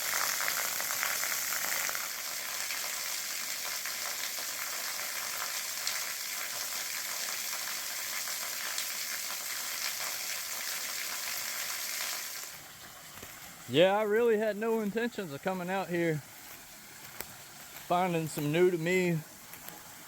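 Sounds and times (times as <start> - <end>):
small waterfall splashing: 0.0 - 20.0.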